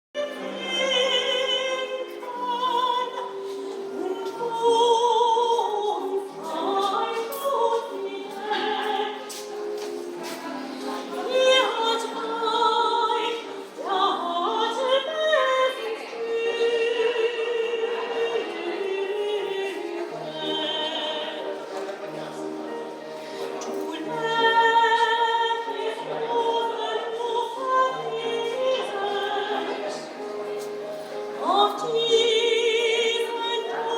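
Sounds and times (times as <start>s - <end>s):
opera singing with vibrato: 0.2s - 33.9s.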